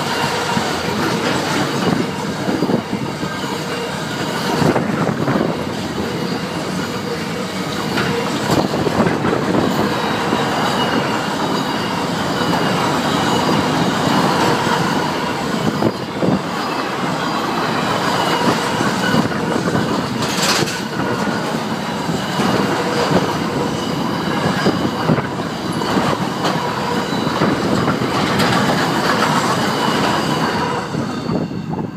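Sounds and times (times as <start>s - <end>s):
wheels clicking on rails: 0.0s - 31.8s
high wheel squeal: 0.0s - 31.9s.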